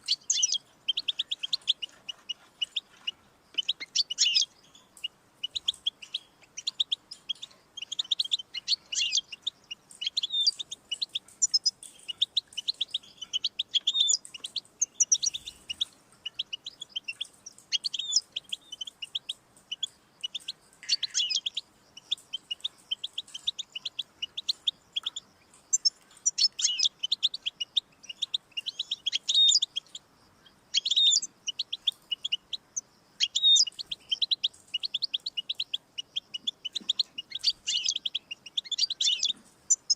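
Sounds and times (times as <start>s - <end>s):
bird twittering and trilling: 0.0s - 39.9s.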